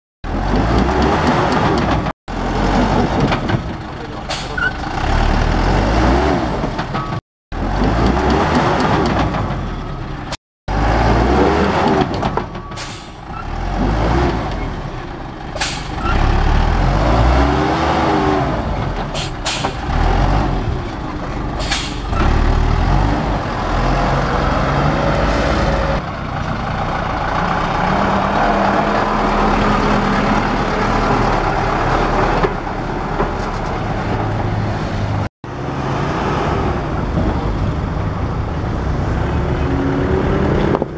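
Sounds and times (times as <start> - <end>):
diesel truck engine revving: 0.3 - 6.9, 7.5 - 33.2, 33.8 - 40.9.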